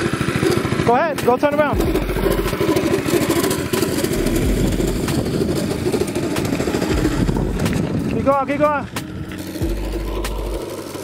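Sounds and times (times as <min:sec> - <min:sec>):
go kart engine running: 0:00.0 - 0:11.0.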